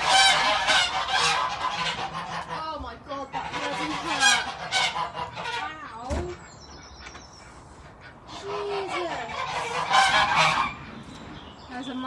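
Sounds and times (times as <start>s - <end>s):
geese honking: 0.0s - 11.1s.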